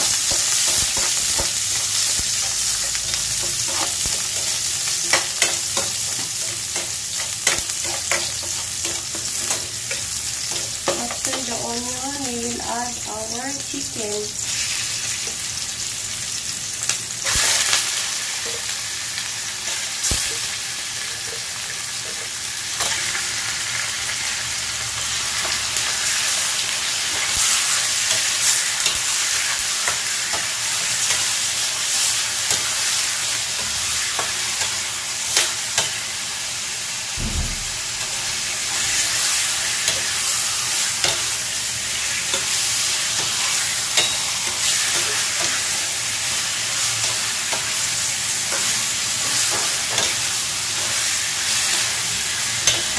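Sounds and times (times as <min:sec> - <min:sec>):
chicken sizzling in hot oil: 0:00.0 - 0:52.9.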